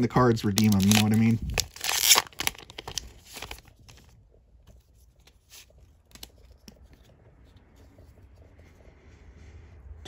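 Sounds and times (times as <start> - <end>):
rustling of trading cards: 0.0 - 9.1.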